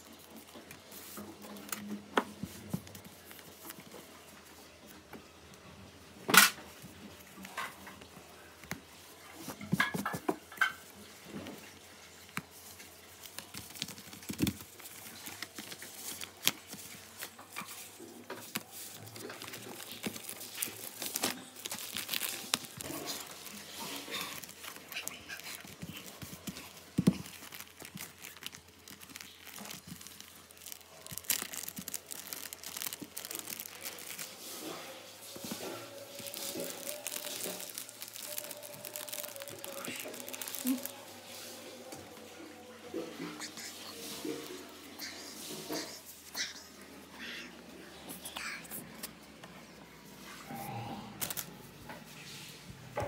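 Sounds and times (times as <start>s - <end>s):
paper and plastic rustling: 0.0s - 5.6s, 6.3s - 46.4s, 51.2s - 52.8s.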